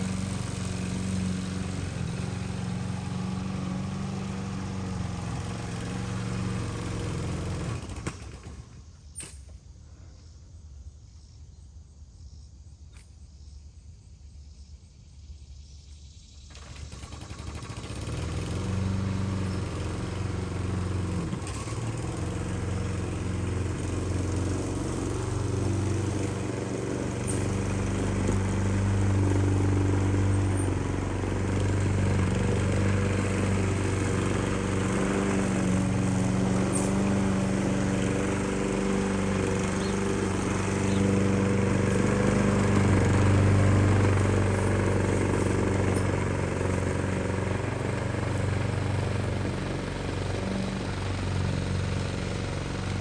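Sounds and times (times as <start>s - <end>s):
grass cutter engine running: 0.0s - 8.8s, 16.5s - 53.0s.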